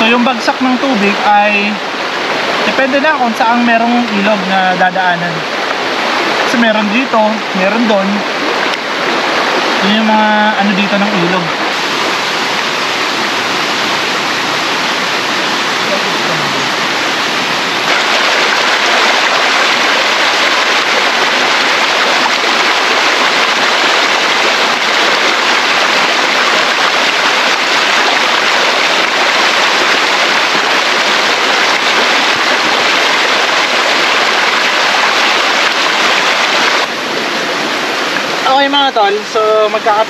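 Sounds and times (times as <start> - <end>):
stream water rushing over rocks: 0.0 - 40.0.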